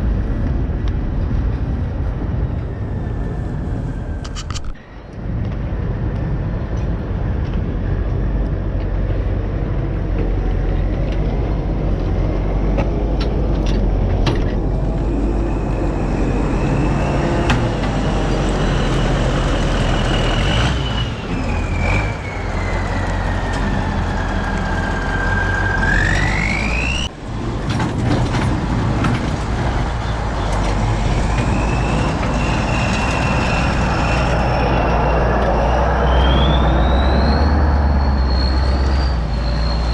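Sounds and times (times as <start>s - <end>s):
engine whine: 0.0s - 39.9s
tractor diesel engine running: 0.0s - 39.9s.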